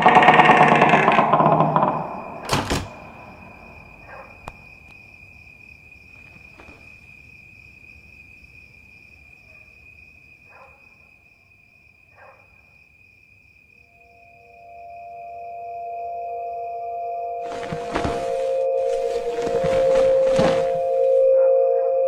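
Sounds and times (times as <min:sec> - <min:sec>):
crickets trilling: 0:00.0 - 0:21.4.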